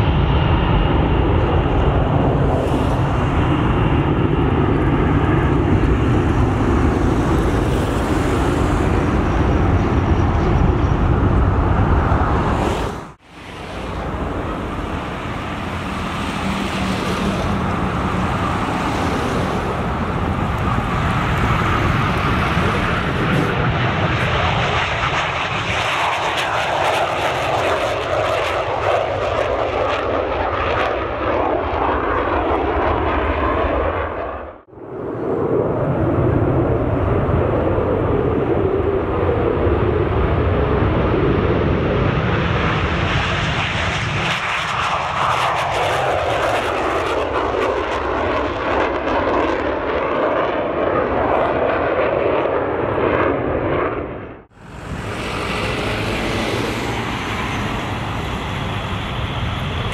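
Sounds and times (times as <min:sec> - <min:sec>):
jet engines at climb power: 0:00.0 - 0:59.9
jet engines taking off crackling: 0:00.0 - 0:59.9.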